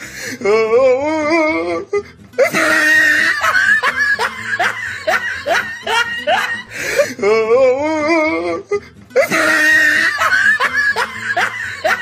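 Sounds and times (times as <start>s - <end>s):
music: 0.0s - 12.0s
person laughing: 1.2s - 12.0s.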